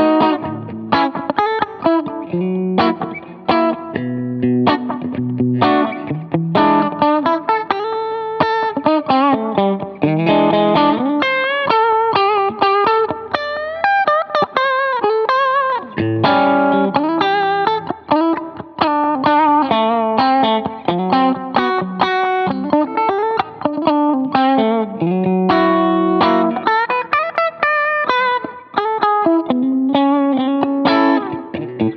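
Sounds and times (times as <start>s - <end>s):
electric guitar lead with delay: 0.0s - 31.9s.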